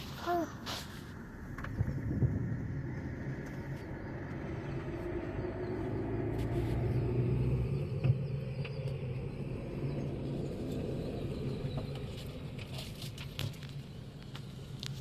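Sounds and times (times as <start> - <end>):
car engine hum: 0.0 - 15.0
road rumble: 0.0 - 15.0.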